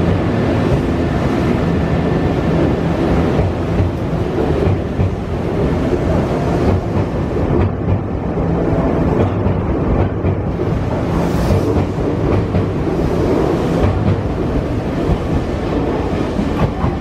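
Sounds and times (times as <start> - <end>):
electric train rumbling past: 0.0 - 17.0.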